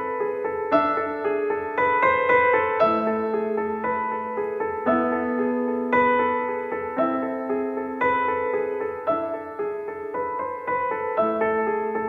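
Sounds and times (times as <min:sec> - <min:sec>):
piano-like keyboard melody: 0:00.0 - 0:12.0.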